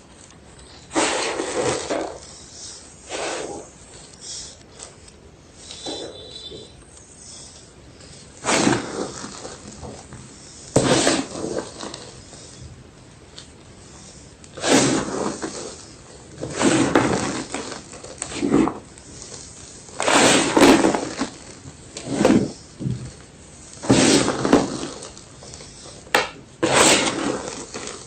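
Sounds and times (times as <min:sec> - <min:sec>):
gym chalk crunching: 0:00.0 - 0:13.8, 0:14.5 - 0:28.0.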